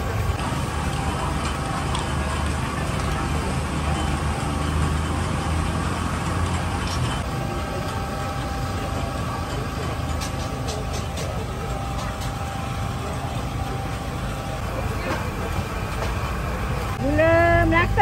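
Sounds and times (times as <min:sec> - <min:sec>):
engine hum: 0:00.0 - 0:18.0
outdoor market noise: 0:00.0 - 0:18.0.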